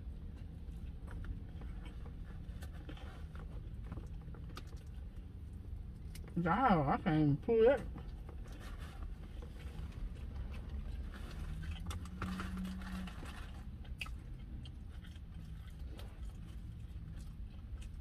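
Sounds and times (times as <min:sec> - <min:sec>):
person chewing food: 0:00.0 - 0:06.4, 0:08.1 - 0:18.0.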